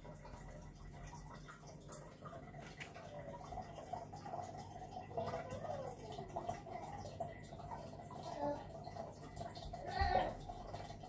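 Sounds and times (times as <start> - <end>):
aquarium water bubbling: 0.0 - 11.0.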